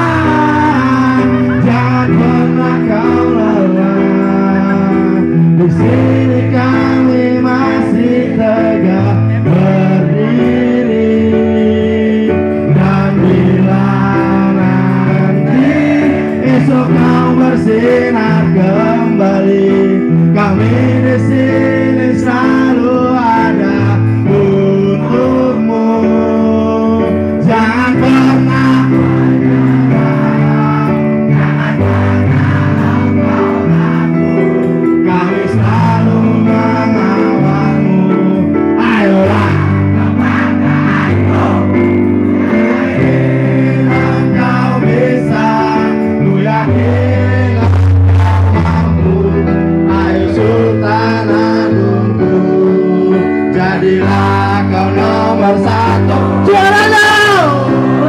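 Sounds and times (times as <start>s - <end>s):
acoustic guitar: 0.0s - 58.0s
keyboard accompaniment: 0.0s - 58.0s
person singing: 0.0s - 58.0s.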